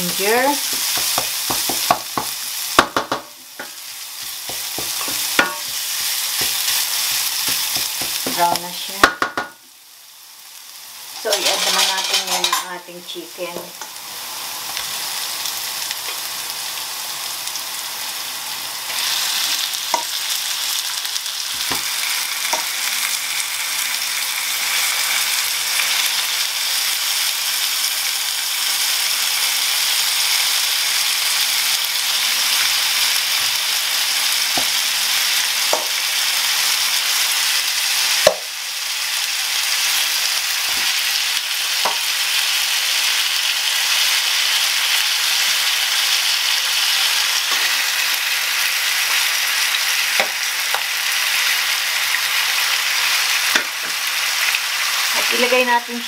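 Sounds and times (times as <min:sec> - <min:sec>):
chicken sizzling in hot oil: 0:00.0 - 0:56.0.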